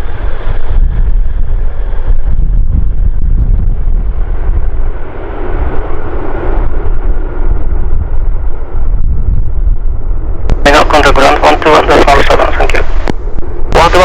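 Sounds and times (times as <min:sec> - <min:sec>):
jet airliner engine roar: 0:00.0 - 0:14.0
wind buffeting microphone: 0:00.0 - 0:14.0.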